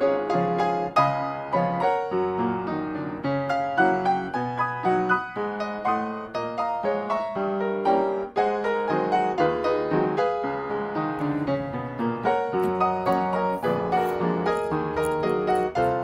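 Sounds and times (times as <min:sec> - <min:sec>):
ragtime piano music: 0:00.0 - 0:16.0.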